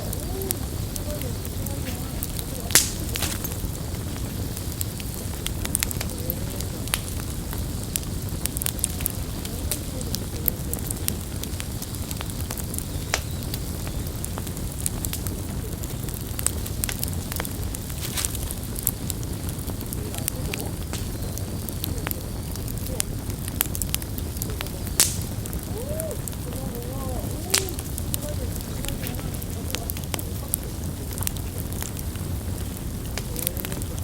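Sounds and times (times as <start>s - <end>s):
fire crackles and pops: 0.0s - 34.0s
low rumble of flames: 0.0s - 34.0s.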